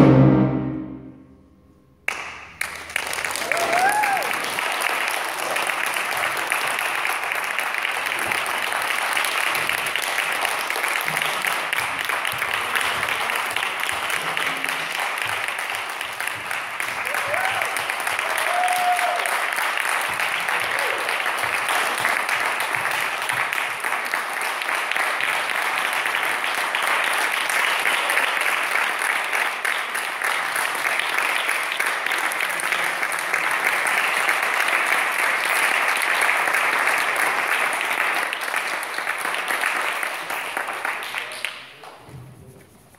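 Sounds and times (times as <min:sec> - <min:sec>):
audience applauding: 0:02.1 - 0:42.0.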